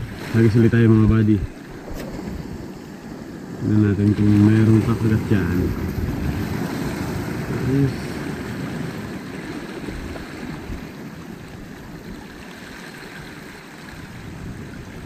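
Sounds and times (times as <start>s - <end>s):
waves rushing against shore: 0.0s - 15.0s.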